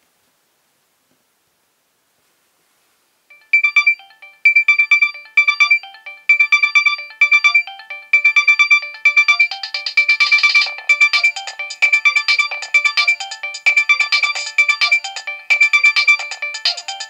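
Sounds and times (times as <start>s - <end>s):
synthesized ringtone melody: 3.3s - 17.0s.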